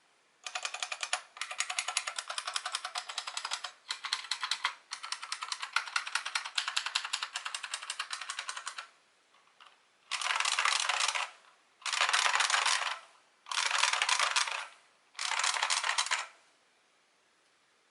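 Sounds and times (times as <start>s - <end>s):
mechanical keyboard typing: 0.4s - 16.4s.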